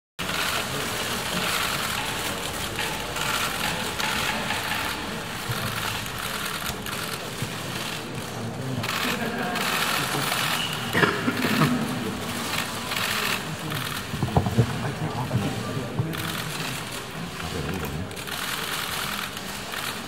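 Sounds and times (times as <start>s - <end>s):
murmur of voices: 0.2s - 20.0s.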